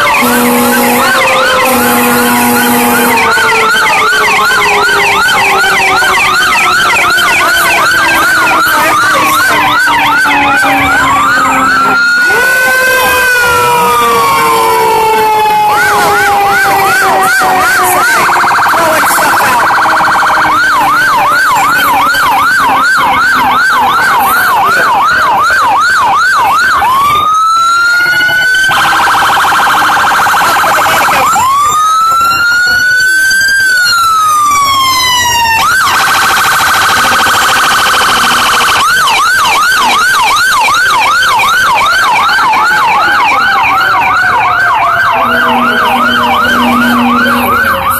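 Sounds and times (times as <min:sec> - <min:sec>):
electronic yelp siren: 0:00.0 - 0:47.9
wailing siren: 0:00.0 - 0:47.9.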